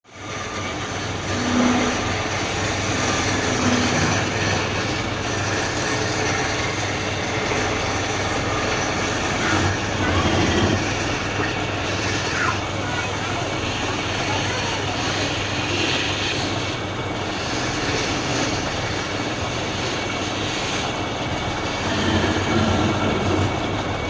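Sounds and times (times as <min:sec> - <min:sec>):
workshop machine running: 0:00.0 - 0:24.0.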